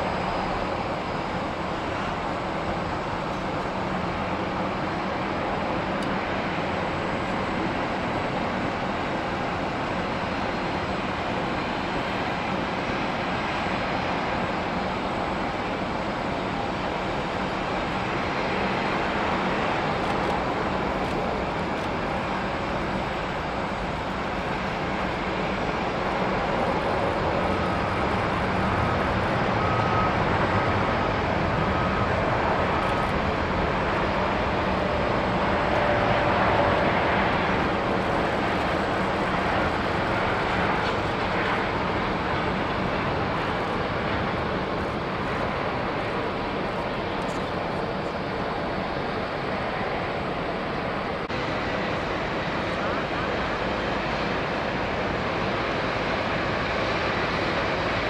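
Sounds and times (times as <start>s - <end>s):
jet airliner landing: 0.0s - 58.0s.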